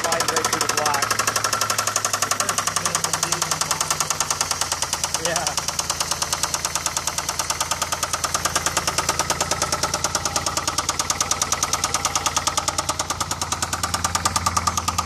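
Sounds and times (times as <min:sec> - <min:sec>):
car engine running: 0:00.0 - 0:15.0
rapid engine knock: 0:00.0 - 0:15.0.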